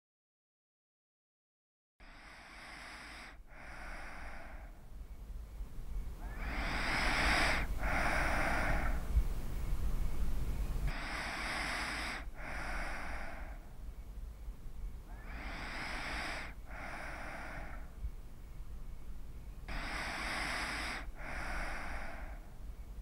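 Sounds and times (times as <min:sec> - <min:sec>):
slow deep human breathing: 0:02.0 - 0:23.0
low steady rumble: 0:03.4 - 0:23.0.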